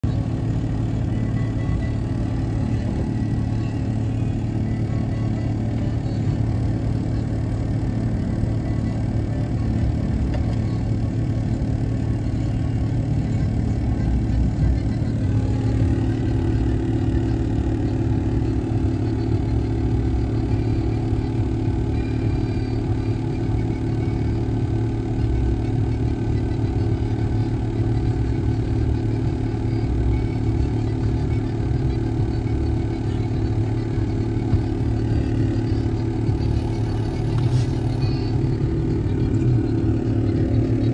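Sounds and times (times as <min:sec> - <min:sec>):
car engine hum: 0:00.0 - 0:40.9.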